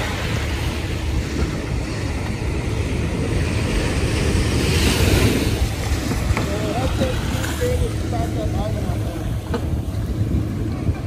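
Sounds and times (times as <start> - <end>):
small waves breaking on shore: 0.0 - 11.0
wind rumbling on microphone: 0.0 - 11.0.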